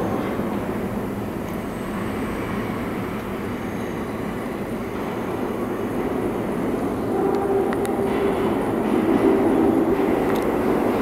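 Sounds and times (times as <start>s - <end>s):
subway train rail rumble: 0.0s - 11.0s.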